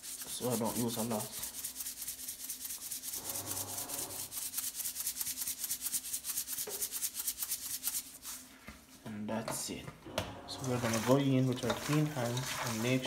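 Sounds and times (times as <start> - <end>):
seasoning shaker rattling: 0.0 - 8.5, 10.9 - 13.0.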